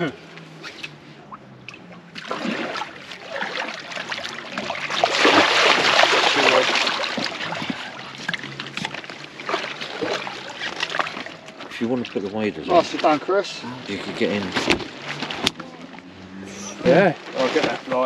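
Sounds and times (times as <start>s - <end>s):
water splashing: 0.5s - 18.0s.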